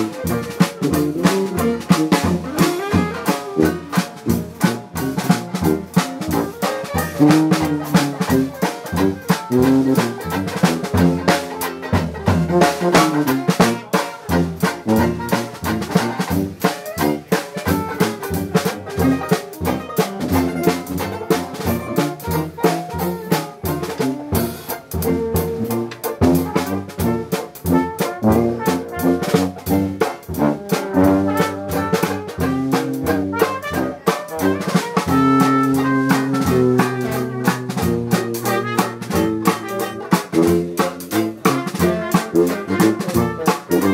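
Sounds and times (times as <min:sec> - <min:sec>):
jazz band playing: 0:00.0 - 0:43.9.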